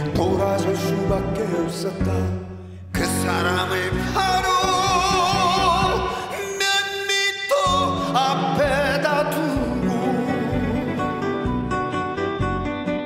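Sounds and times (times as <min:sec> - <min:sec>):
instrumental backing: 0:00.0 - 0:06.8, 0:07.4 - 0:13.0
man singing into microphone: 0:00.0 - 0:11.5.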